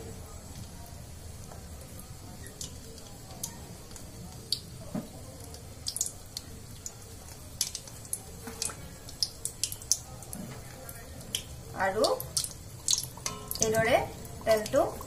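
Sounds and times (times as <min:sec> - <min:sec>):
deep-frying oil sizzle: 0:00.0 - 0:15.0
oil crackles and pops: 0:00.2 - 0:15.0.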